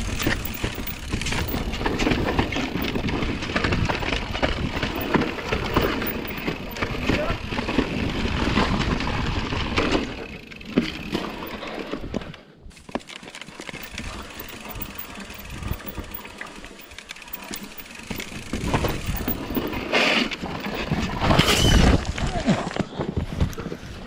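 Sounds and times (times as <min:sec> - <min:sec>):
bike rattling and knocking: 0:00.0 - 0:21.4.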